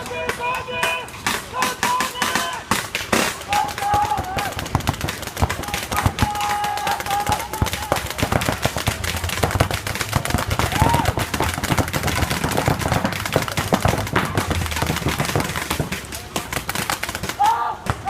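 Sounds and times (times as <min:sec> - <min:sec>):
paintball markers firing: 0:00.2 - 0:18.0.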